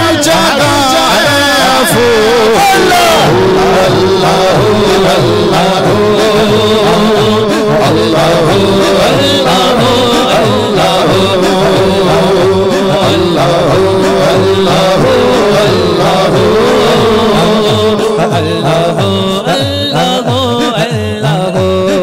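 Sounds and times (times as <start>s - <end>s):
man singing into a microphone: 0.0s - 22.0s
low rhythmic backing: 0.1s - 21.9s.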